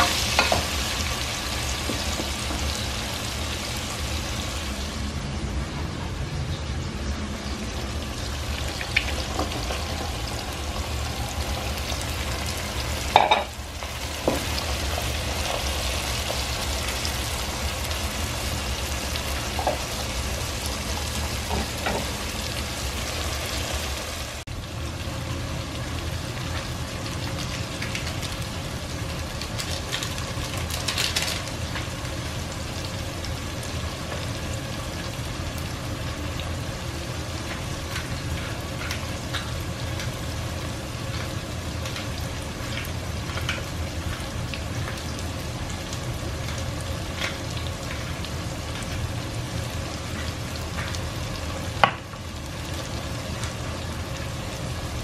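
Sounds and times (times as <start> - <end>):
vegetables sizzling in hot oil: 0.0 - 5.3, 6.6 - 55.0.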